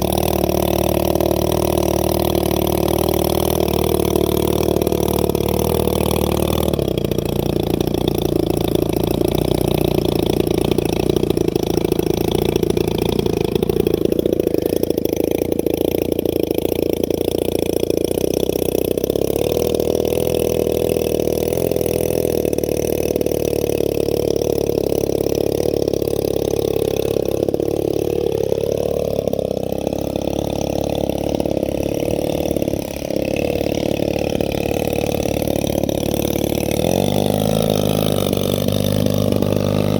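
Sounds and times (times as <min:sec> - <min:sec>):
model airplane engine running: 0:00.0 - 0:39.9.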